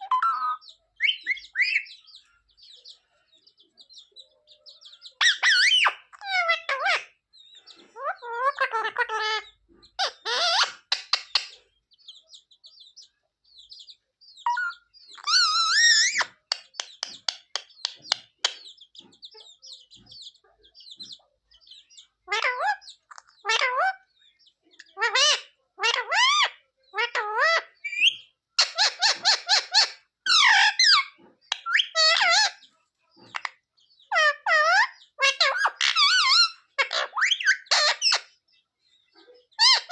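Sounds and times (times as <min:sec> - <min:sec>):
parrot calling: 0:00.0 - 0:02.2, 0:04.8 - 0:07.2, 0:08.0 - 0:12.1, 0:14.4 - 0:32.7, 0:33.3 - 0:38.4, 0:39.5 - 0:39.9
parrot chirps and squeaks: 0:00.0 - 0:02.9, 0:04.8 - 0:13.0, 0:13.6 - 0:38.5, 0:39.1 - 0:39.9.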